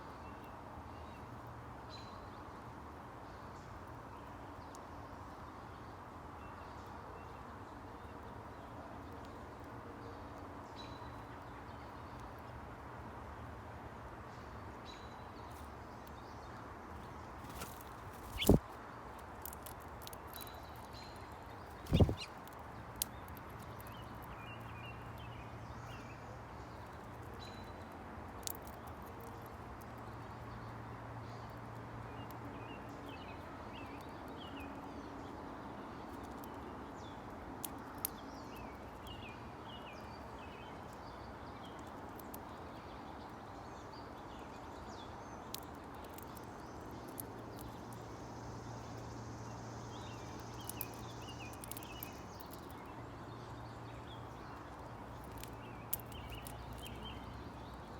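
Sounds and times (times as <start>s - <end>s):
small songbirds chirping: 0.0s - 57.9s.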